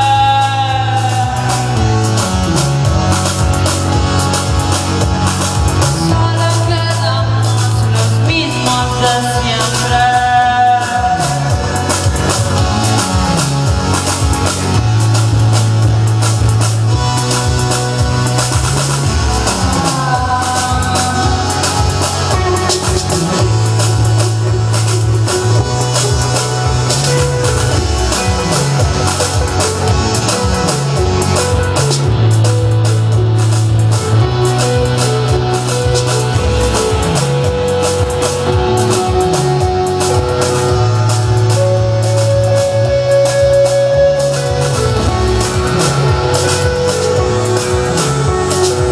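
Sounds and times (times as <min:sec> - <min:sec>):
bass guitar line: 0:00.0 - 0:48.9
drum kit: 0:00.0 - 0:48.9
electric guitar: 0:00.0 - 0:48.9.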